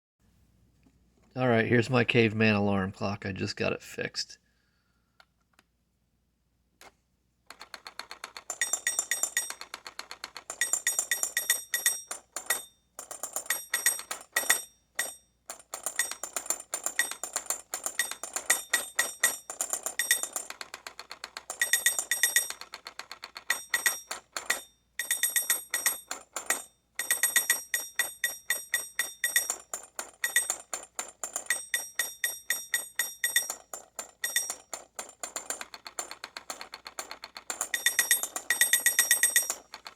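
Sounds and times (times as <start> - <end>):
mechanical alarm clock ringing: 7.5 - 39.9.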